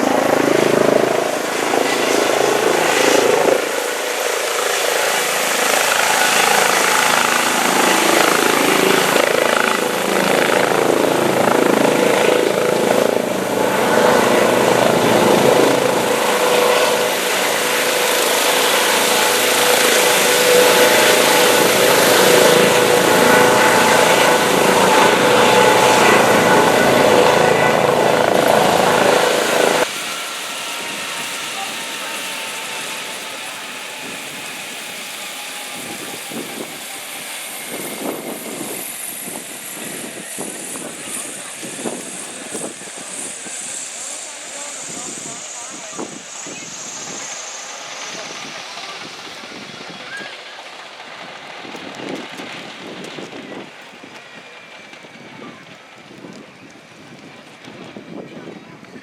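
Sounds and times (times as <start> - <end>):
held whine: 0.0 - 58.3
helicopter running: 0.0 - 59.0.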